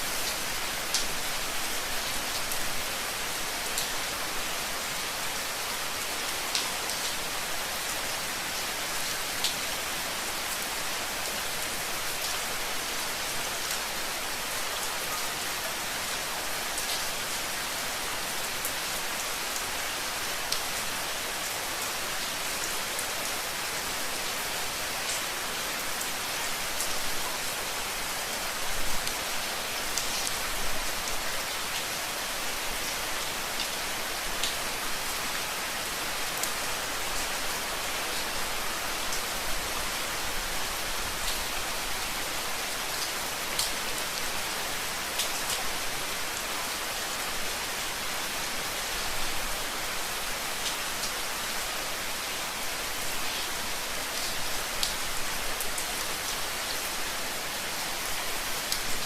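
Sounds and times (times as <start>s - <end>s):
rain hissing on a surface: 0.0s - 59.0s.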